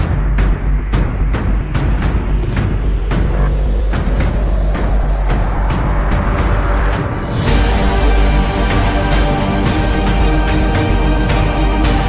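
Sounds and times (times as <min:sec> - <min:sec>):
music with heavy bass: 0:00.0 - 0:12.0.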